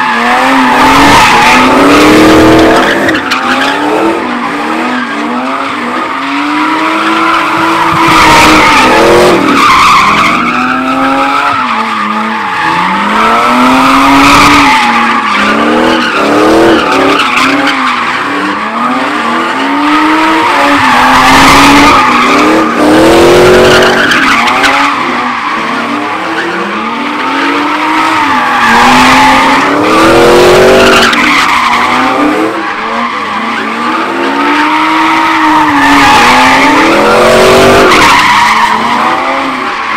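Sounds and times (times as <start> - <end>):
car engine revving: 0.0 - 39.9
tires screeching: 0.0 - 39.9.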